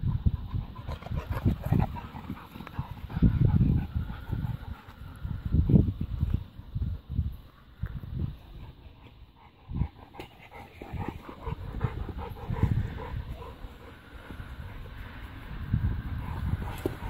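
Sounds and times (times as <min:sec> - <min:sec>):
dog panting: 0:00.0 - 0:05.4, 0:08.3 - 0:17.0.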